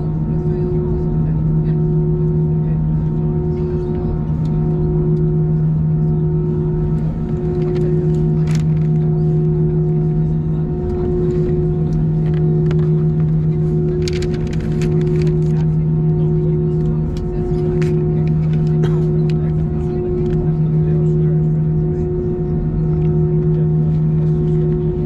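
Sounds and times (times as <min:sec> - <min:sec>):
aircraft cabin drone: 0:00.0 - 0:25.0.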